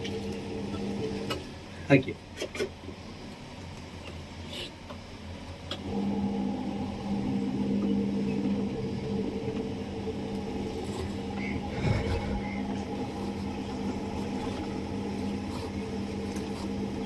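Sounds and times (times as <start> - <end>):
washing machine motor hum: 0.0 - 2.0, 5.2 - 17.0.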